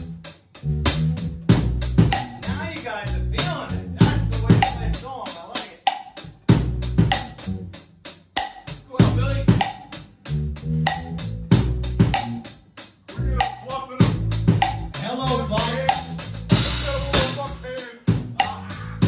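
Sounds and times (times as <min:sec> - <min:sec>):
bass guitar: 0:00.0 - 0:05.2, 0:06.2 - 0:19.0
drum kit playing: 0:00.0 - 0:19.0.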